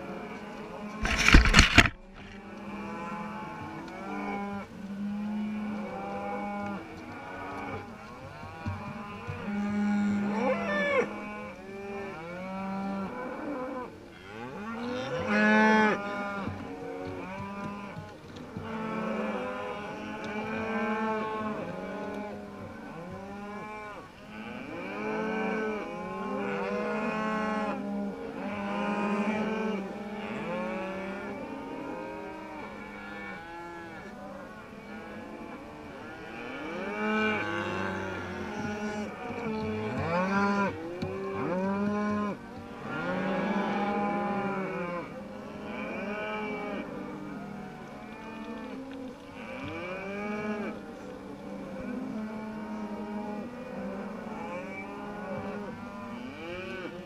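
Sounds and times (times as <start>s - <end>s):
cattle mooing and bawling: 2.4s - 57.0s.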